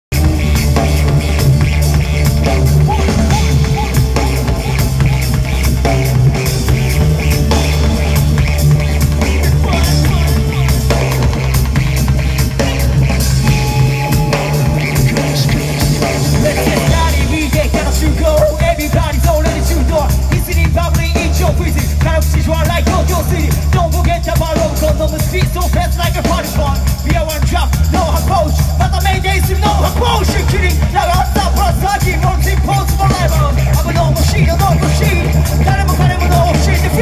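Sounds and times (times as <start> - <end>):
drum kit beat: 0.0 - 37.0
heavy bass line: 0.0 - 37.0
keyboards: 0.0 - 37.0.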